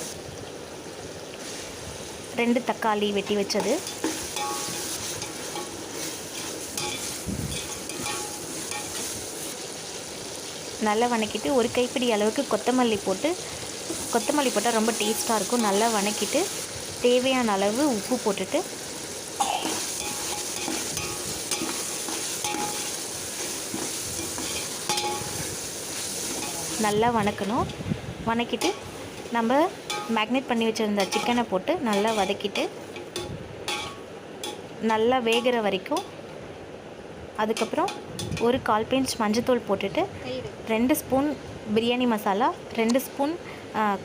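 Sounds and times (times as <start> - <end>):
food sizzling in hot oil: 0.0 - 44.0.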